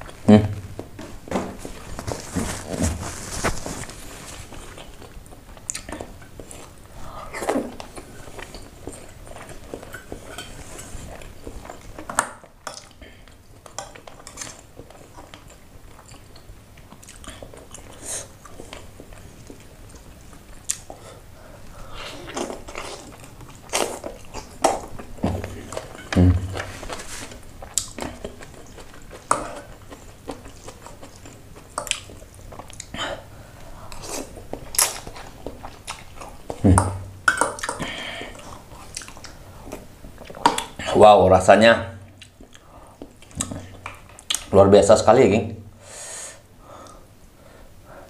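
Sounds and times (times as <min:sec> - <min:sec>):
chewing and mouth noises: 0:01.7 - 0:21.1, 0:22.0 - 0:41.0, 0:42.1 - 0:44.5.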